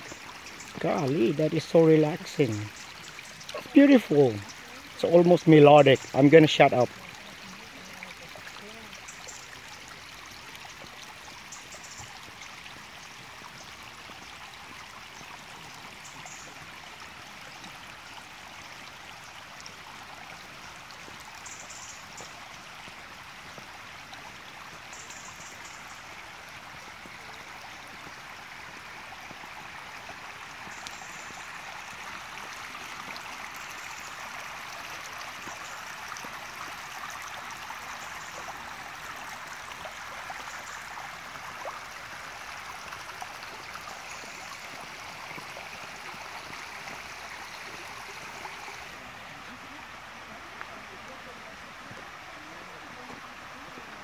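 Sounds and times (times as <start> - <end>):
flowing water stream: 0.0 - 54.0.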